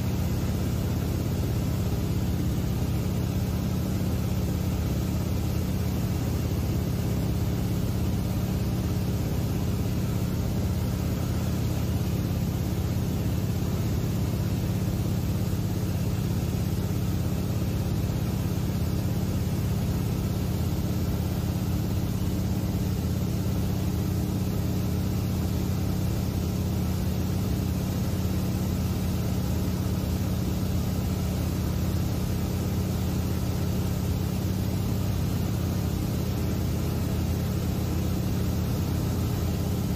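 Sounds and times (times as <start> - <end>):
engine and propeller drone: 0.0 - 39.9.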